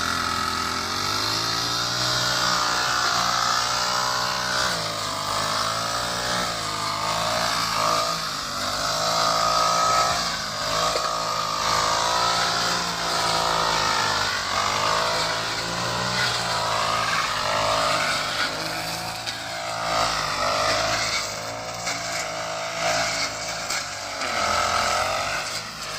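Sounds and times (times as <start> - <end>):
grass cutter engine running: 0.0 - 25.9.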